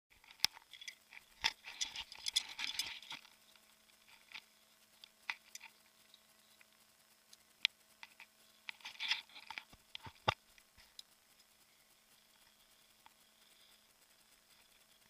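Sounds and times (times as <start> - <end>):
gear rubbing on camera microphone: 0.1 - 7.2, 7.8 - 15.0
faint steady hum: 0.1 - 15.0.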